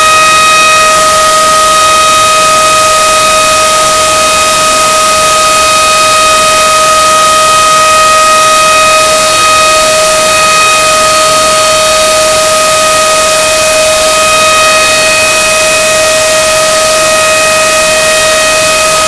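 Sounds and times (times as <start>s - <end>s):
distorted chicken scream: 0.0s - 19.0s.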